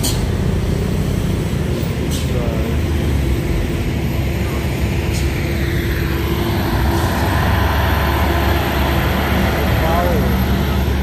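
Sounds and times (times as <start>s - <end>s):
truck diesel engine labouring: 0.0s - 11.0s.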